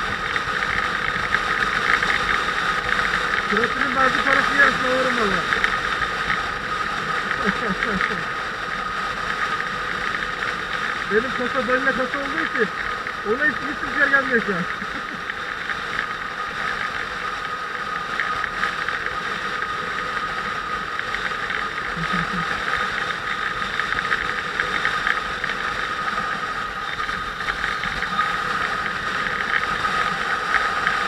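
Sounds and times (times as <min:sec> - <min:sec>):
constant high whine: 0:00.0 - 0:31.0
motorcycle engine running: 0:00.0 - 0:31.0.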